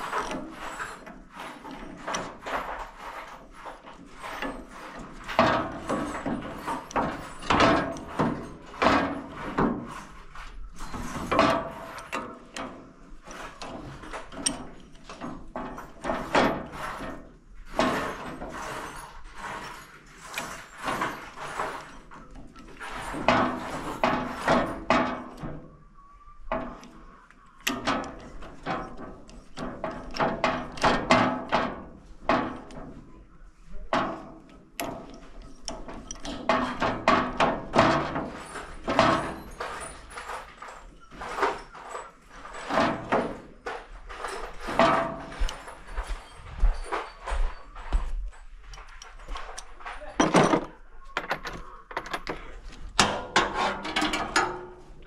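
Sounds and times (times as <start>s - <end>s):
hand tools and metal parts clattering: 0.0s - 55.0s.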